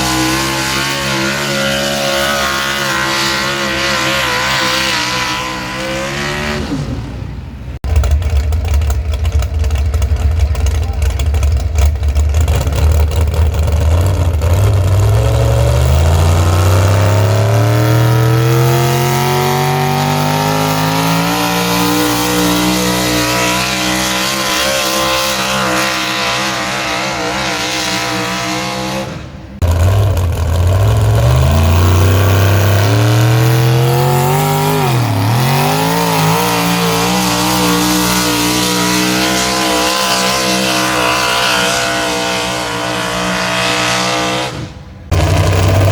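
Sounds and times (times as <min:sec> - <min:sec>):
engine revving at full throttle: 0:00.0 - 0:07.2, 0:12.2 - 0:45.9.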